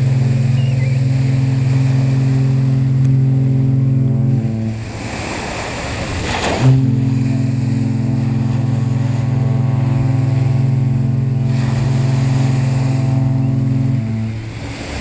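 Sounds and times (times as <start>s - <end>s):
ship horn long low blast: 0.0s - 15.0s.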